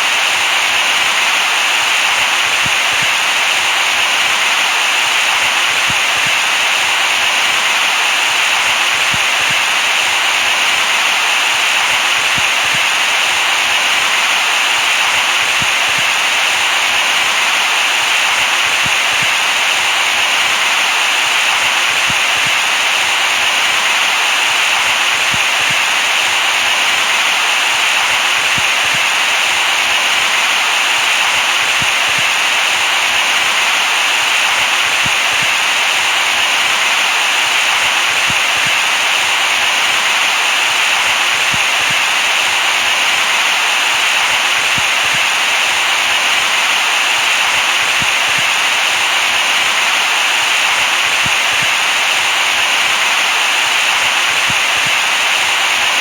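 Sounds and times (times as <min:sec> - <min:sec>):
loud white noise hiss: 0:00.0 - 0:56.0.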